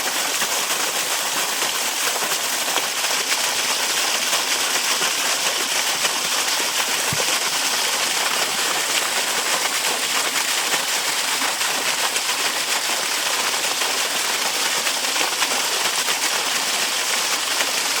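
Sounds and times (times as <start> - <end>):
waterfall spattering on rock: 0.0 - 18.0.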